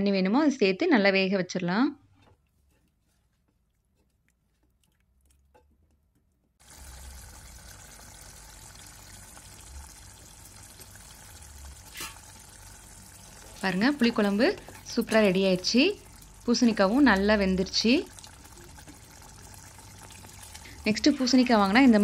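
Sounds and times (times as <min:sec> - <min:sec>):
curry simmering in metal pot: 0:02.1 - 0:22.0.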